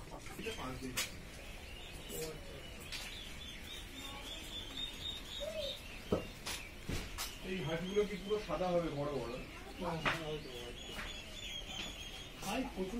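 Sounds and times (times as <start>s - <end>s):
chicks peeping: 0.0s - 12.9s.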